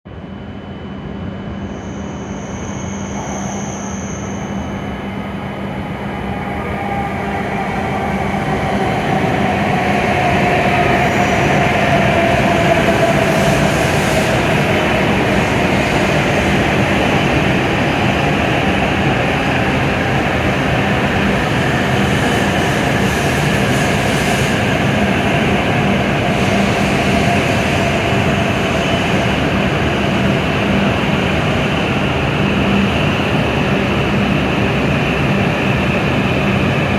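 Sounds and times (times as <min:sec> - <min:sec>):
train running rumble: 0:05.8 - 0:36.9.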